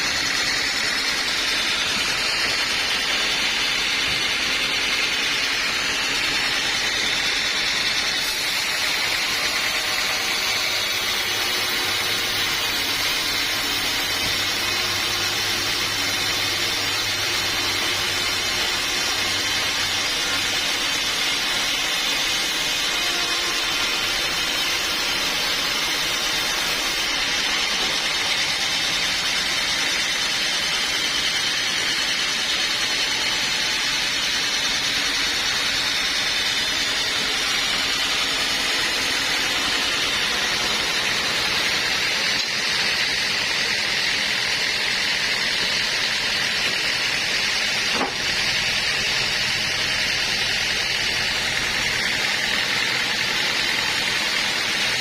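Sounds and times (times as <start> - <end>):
saw whining hiss: 0.0 - 55.0.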